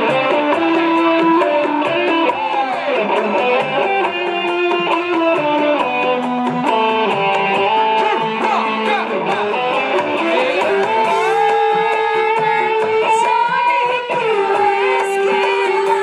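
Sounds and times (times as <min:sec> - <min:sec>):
loud dance music over loudspeakers: 0:00.0 - 0:16.0.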